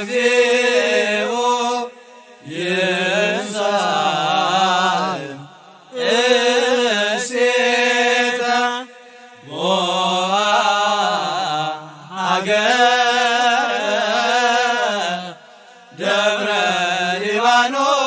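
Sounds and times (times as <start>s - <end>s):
slow religious chant: 0.0s - 18.0s.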